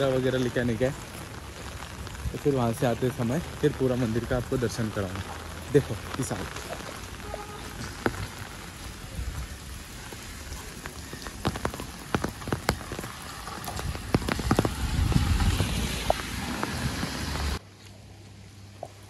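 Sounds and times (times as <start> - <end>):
rain pattering on an umbrella: 0.0 - 17.6.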